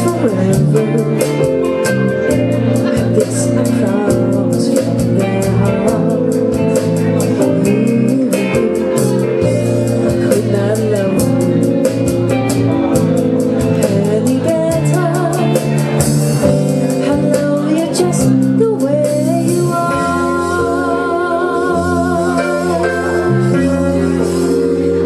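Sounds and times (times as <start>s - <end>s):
easy-listening pop song: 0.0s - 25.0s.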